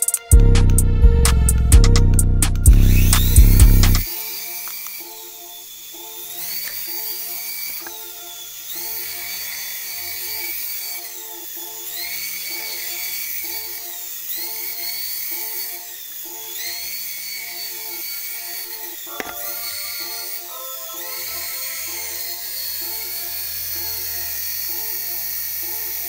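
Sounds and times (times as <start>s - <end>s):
looping synth electronic music: 0.0s - 26.0s.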